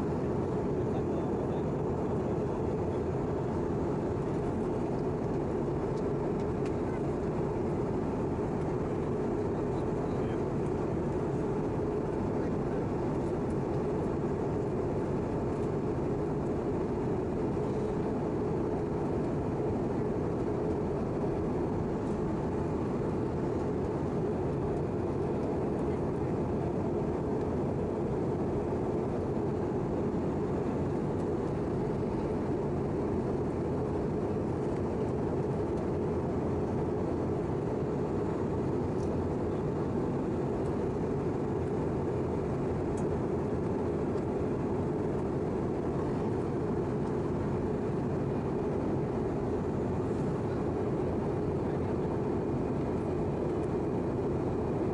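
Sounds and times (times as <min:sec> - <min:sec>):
airplane cabin roar: 0:00.0 - 0:54.9.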